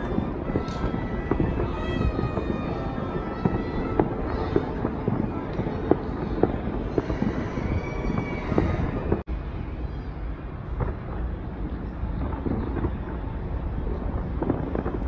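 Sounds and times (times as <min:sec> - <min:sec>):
fireworks pops and crackles: 0:00.0 - 0:09.3, 0:10.6 - 0:15.0
distant fireworks booming: 0:00.0 - 0:09.6, 0:10.2 - 0:15.0.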